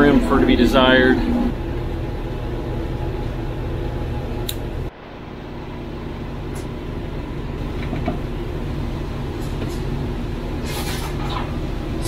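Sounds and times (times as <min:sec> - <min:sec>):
machinery hum with held tones: 0:00.0 - 0:12.0.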